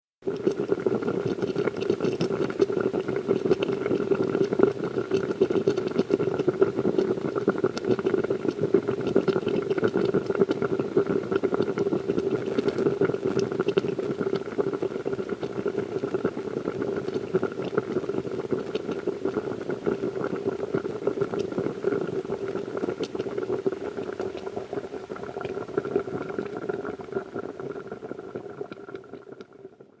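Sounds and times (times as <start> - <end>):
liquid bubbling on the boil: 0.2 - 30.0.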